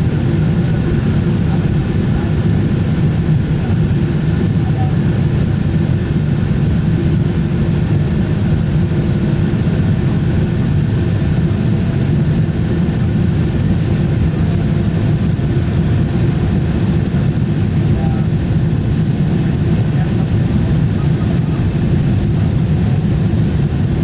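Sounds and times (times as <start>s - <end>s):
airliner cabin rumble: 0.0s - 24.0s
faint steady hums: 0.0s - 24.0s.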